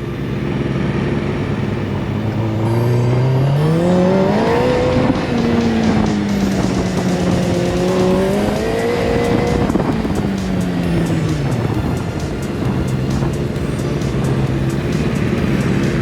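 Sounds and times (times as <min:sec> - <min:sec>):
go-kart engine revving: 0:00.0 - 0:16.0.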